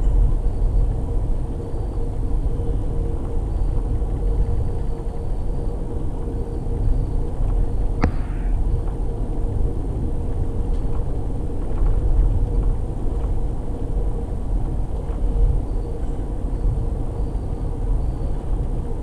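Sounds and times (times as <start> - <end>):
faint steady hum: 0.0 - 19.0
train wheels rumbling on rails: 0.0 - 19.0.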